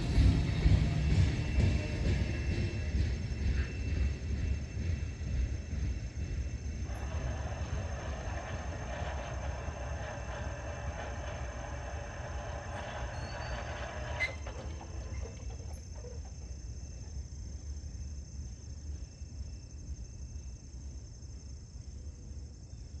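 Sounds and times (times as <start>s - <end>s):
freight train rolling: 0.0s - 23.0s.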